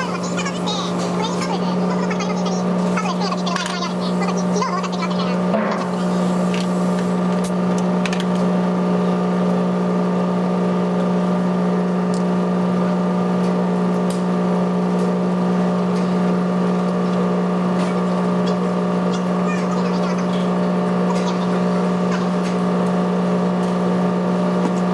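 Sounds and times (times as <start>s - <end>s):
electric motor humming: 0.0s - 24.9s.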